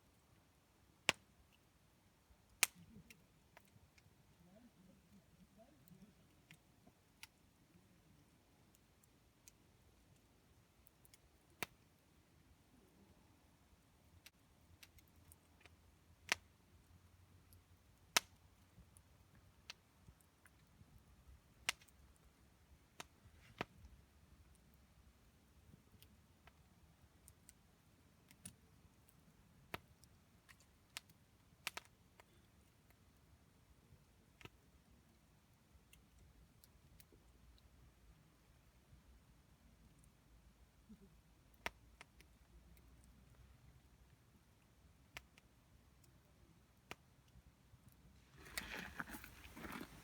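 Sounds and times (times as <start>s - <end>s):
campfire crackling: 0.1s - 13.0s, 13.6s - 40.6s, 41.3s - 50.0s.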